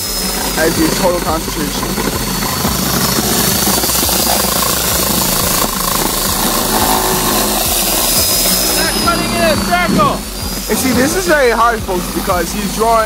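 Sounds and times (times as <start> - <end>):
electric jigsaw cutting: 0.0 - 13.0.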